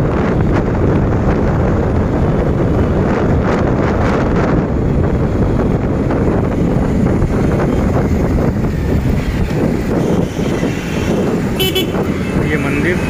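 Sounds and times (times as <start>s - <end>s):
motorcycle engine running: 0.0s - 13.0s
road traffic: 0.0s - 13.0s
wind rushing over microphone: 0.0s - 13.0s.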